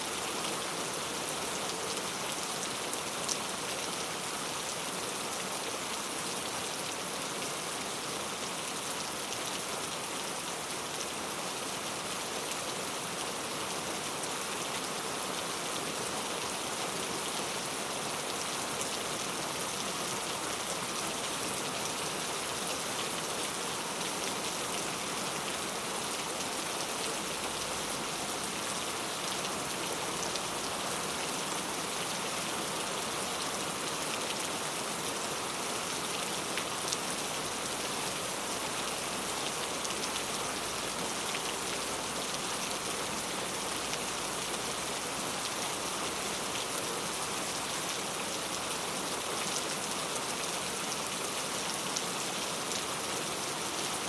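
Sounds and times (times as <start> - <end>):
heavy rain on hard surfaces: 0.0 - 54.0.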